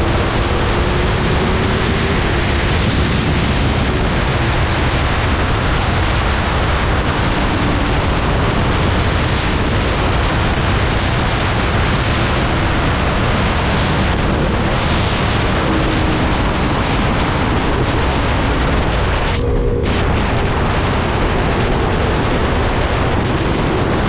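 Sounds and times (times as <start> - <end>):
motorcycle engine drone: 0.0 - 24.0
wind buffeting microphone: 0.0 - 24.0.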